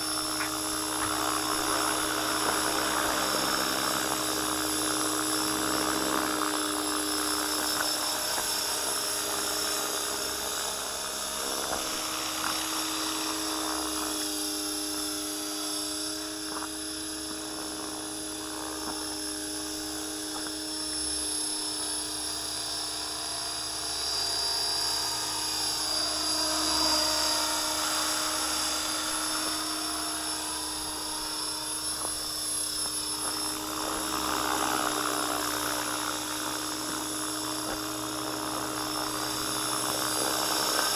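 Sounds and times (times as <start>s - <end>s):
model helicopter whine: 0.0s - 40.9s.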